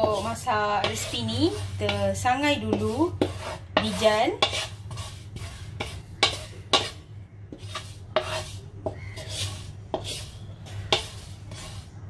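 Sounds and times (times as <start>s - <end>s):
spatula scraping seeds in pan: 0.0s - 12.0s.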